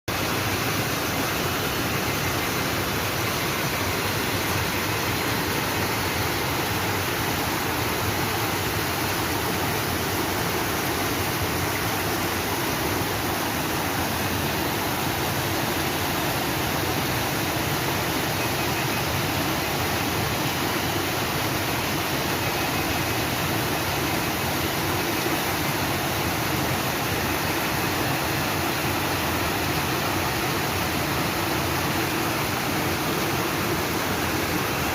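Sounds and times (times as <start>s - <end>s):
stream water rushing: 0.1s - 34.9s.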